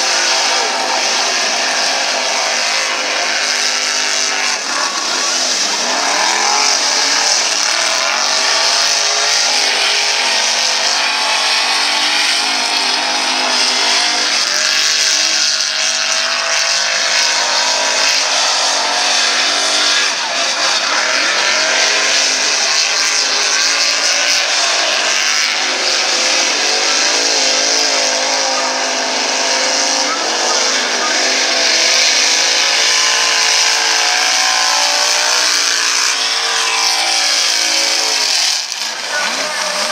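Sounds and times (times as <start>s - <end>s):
truck engines revving hard: 0.0s - 39.9s.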